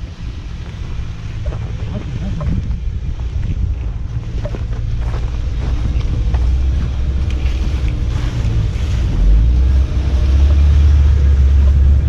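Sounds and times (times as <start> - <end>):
car engine rumbling: 0.0 - 12.0
snow crunching: 0.0 - 12.0
wind noise on microphone: 0.0 - 12.0.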